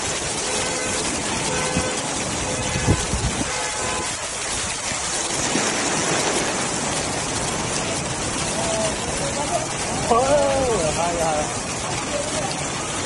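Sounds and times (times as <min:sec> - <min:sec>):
heavy rain on floodwater: 0:00.0 - 0:13.0.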